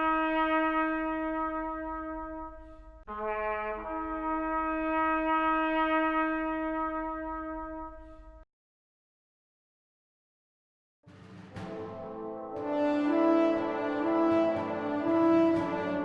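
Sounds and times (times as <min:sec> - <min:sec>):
long held brass notes: 0:00.0 - 0:08.4, 0:11.6 - 0:16.0.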